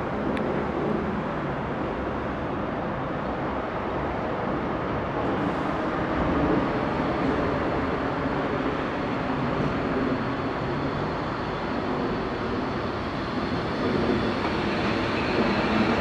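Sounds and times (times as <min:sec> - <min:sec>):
electric train rumbling on track: 0:00.0 - 0:16.0.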